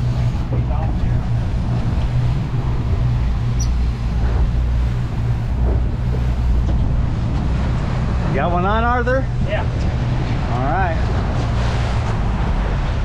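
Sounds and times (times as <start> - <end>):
boat wake hissing: 0.0 - 13.0
outboard motors droning: 0.0 - 13.0
wind: 0.0 - 13.0.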